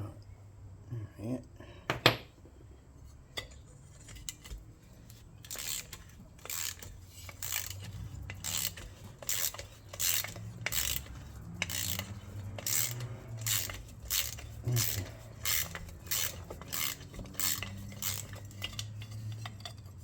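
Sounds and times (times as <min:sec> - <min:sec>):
scraping strokes on metal: 0:03.9 - 0:20.0.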